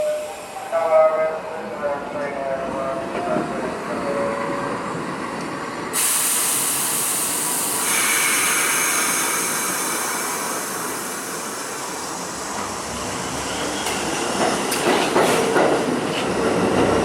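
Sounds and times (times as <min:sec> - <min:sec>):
subway train hiss: 0:00.0 - 0:17.0.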